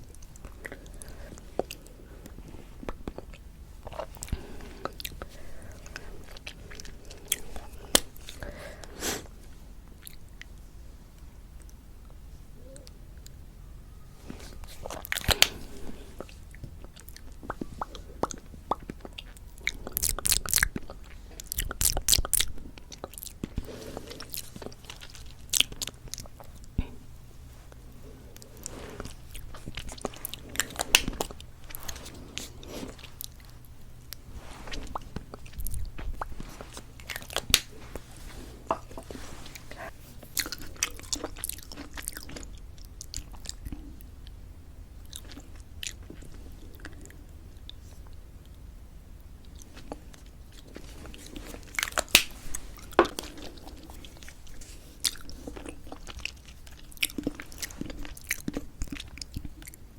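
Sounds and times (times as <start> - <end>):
lip smacks: 0.1 - 9.3, 14.5 - 27.0, 27.6 - 44.4, 49.4 - 59.8.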